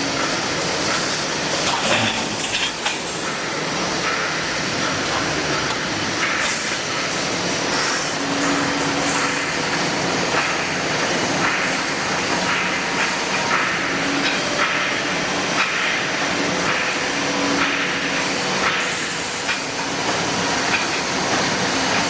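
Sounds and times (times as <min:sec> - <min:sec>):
welding machine running: 0:00.0 - 0:22.0.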